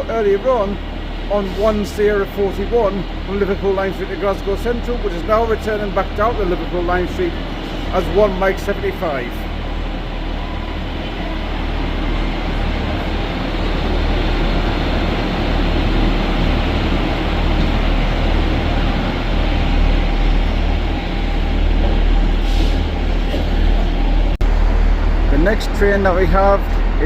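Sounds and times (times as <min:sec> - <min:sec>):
low train hum: 0:00.0 - 0:27.0
train rail rumble: 0:00.0 - 0:27.0.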